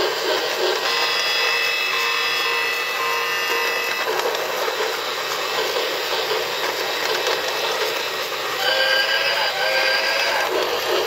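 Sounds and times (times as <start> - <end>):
toy train whirring rattle: 0.0 - 11.0.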